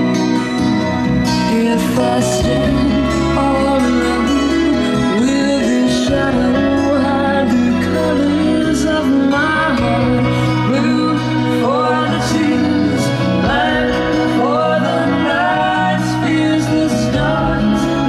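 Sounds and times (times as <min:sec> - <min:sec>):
country song over loudspeakers: 0:00.0 - 0:18.0
guitar playing: 0:00.0 - 0:18.0
person singing: 0:00.0 - 0:18.0.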